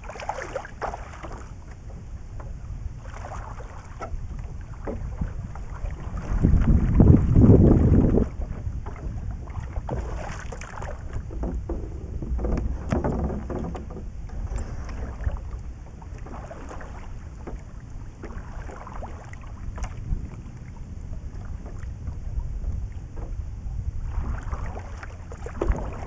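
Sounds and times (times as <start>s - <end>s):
paddle splashes: 0.0s - 26.0s
water sloshing around kayak: 0.0s - 26.0s
wind rumble on microphone: 0.0s - 26.0s.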